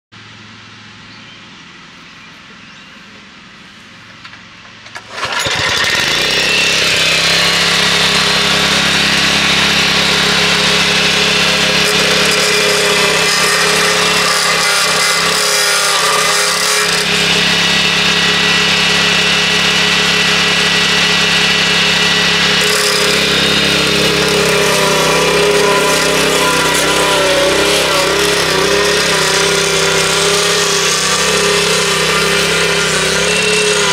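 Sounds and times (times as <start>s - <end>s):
small petrol engine running: 0.4s - 33.9s.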